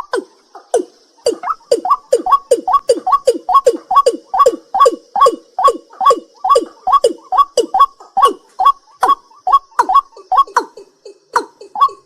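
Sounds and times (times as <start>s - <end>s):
night bird calling: 0.0s - 12.0s.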